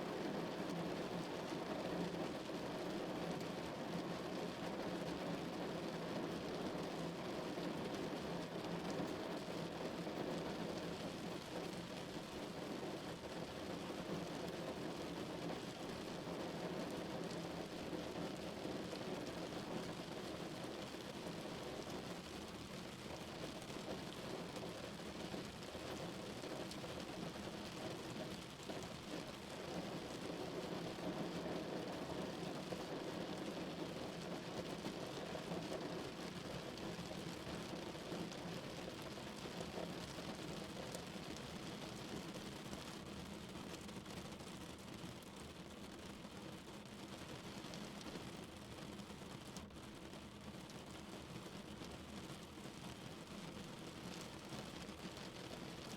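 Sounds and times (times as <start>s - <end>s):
rain drumming on car roof: 0.1s - 55.9s.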